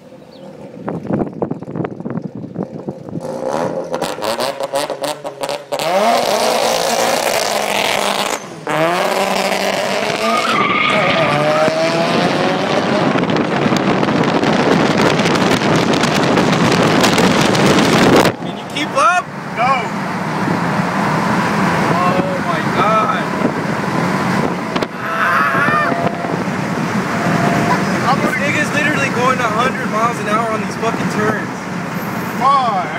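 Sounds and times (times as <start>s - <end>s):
rotary engine accelerating: 0.0s - 32.4s.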